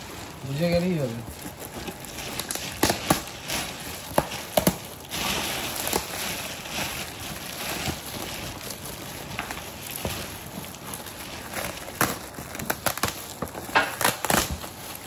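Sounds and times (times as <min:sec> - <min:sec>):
paper and plastic rustling: 0:00.0 - 0:15.0.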